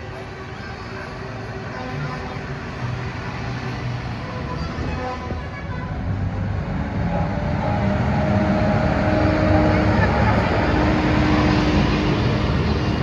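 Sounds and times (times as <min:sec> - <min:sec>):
heavy vehicle diesel engine: 0:00.0 - 0:13.0.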